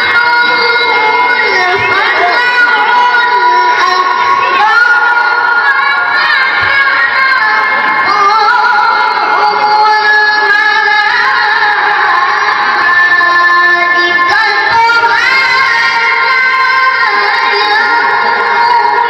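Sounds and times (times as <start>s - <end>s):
boy reciting melodically: 0.0s - 19.0s.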